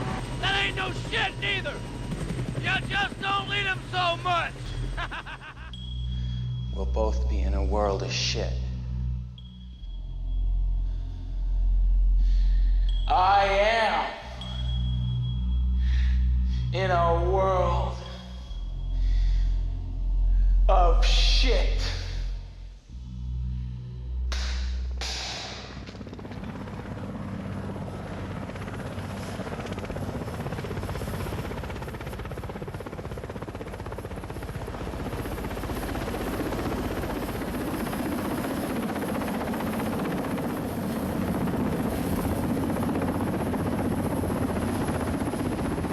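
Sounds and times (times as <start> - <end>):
helicopter rotor and engine: 0.0 - 23.5, 24.4 - 45.9.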